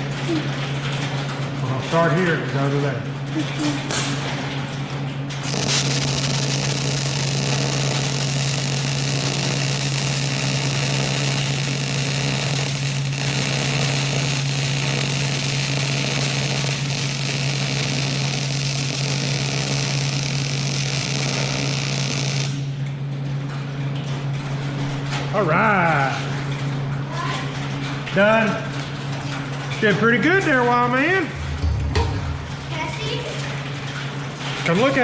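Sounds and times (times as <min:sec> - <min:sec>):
welding machine electrical hum: 0:00.0 - 0:35.0
crackling welding arc: 0:02.0 - 0:35.0.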